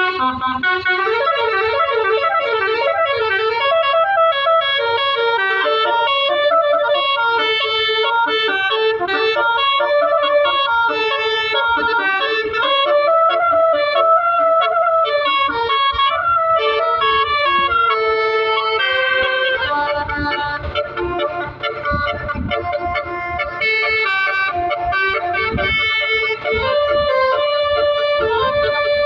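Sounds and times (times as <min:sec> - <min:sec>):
musical air horn melody: 0:00.0 - 0:29.0.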